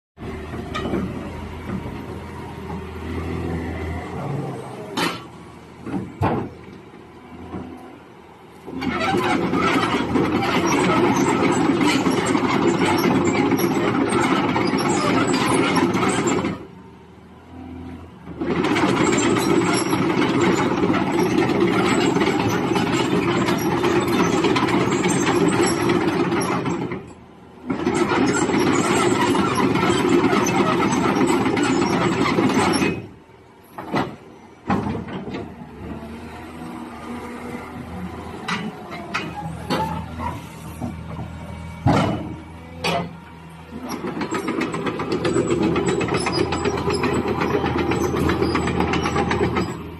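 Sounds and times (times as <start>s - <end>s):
excavator engine and hydraulics: 0.2s - 49.9s.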